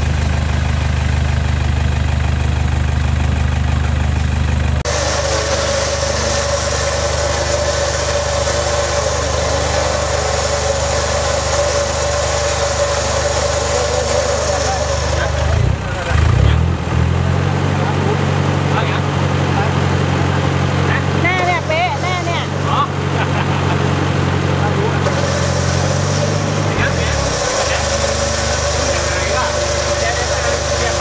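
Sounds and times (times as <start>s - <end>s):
engine with high hum: 0.0s - 31.0s
pickup engine at low revs: 0.0s - 31.0s.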